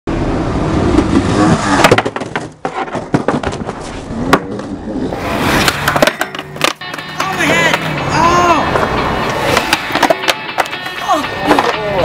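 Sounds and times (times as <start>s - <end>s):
skateboard wheels rolling on concrete: 0.1s - 12.0s
skateboard clacks and bangs: 0.9s - 4.8s, 5.6s - 12.0s.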